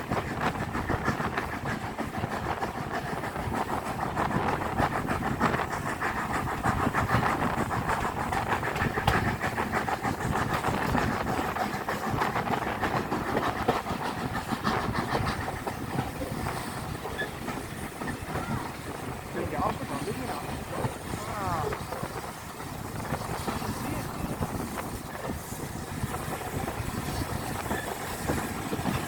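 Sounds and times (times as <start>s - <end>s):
train rumbling: 0.0s - 29.0s
wheels and carriage rattling: 0.0s - 29.0s.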